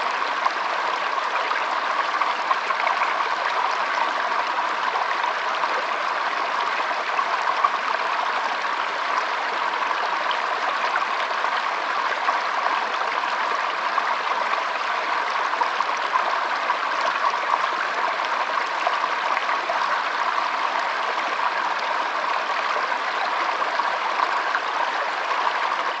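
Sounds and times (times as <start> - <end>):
stream water flowing: 0.0 - 26.0.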